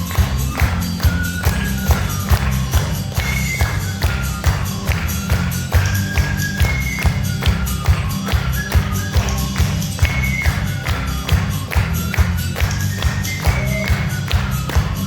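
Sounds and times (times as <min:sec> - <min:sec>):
audience clapping along: 0:00.0 - 0:15.0
backing track music: 0:00.0 - 0:15.0
flute melody: 0:00.0 - 0:15.0.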